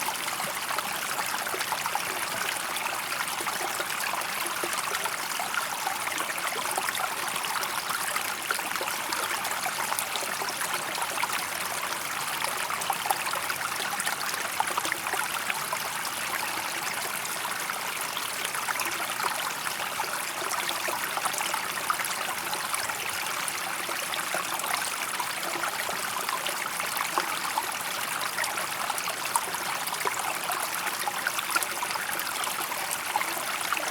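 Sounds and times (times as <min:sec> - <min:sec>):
stream water flowing over stones: 0:00.0 - 0:33.9.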